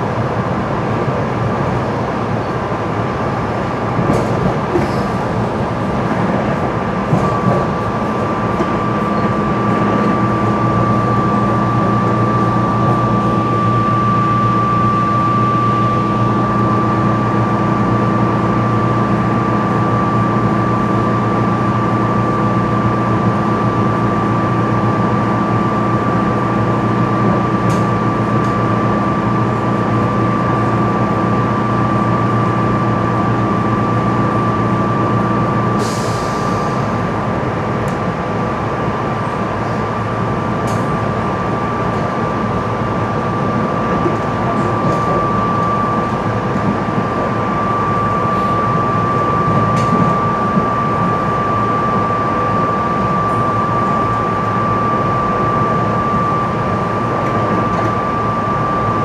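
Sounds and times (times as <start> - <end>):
steady hum: 0.0 - 35.8, 38.4 - 59.0
train wheels rumbling on rail: 0.0 - 59.0
high whine: 2.3 - 38.0, 38.6 - 59.0.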